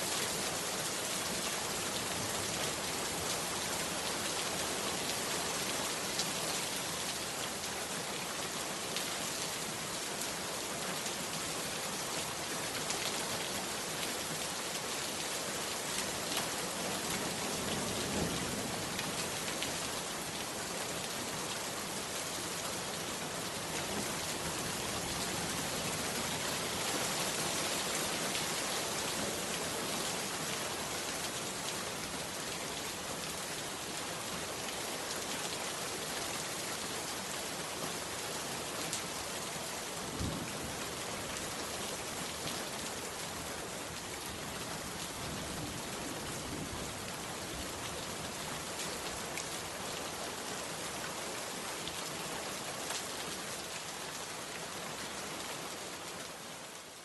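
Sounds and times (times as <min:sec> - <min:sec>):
heavy rain on a hut roof: 0:00.0 - 0:57.0.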